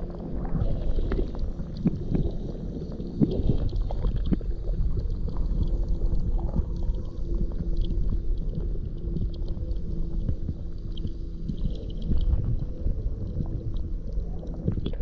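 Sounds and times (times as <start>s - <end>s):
faint steady hum: 0.0s - 15.0s
muffled underwater rumble: 0.0s - 15.0s.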